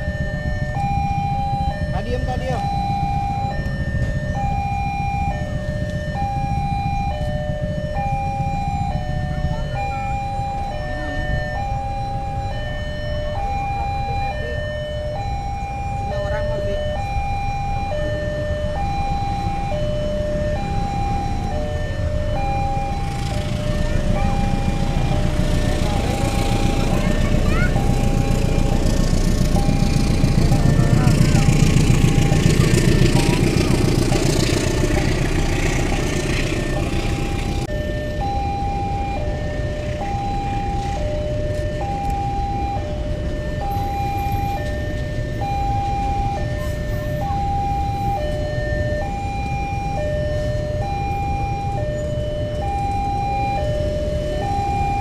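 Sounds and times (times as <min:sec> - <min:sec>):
level crossing two-tone alarm: 0:00.0 - 0:55.0
low traffic rumble: 0:00.0 - 0:55.0.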